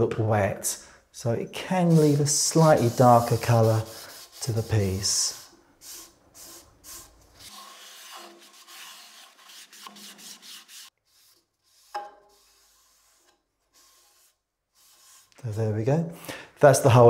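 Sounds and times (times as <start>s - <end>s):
cloth wiping wood: 1.7s - 15.4s.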